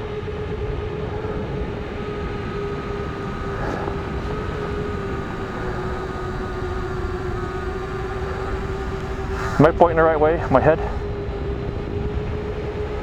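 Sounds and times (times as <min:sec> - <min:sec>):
low rumbling noise: 0:00.0 - 0:13.0
quadcopter motors humming: 0:00.0 - 0:13.0.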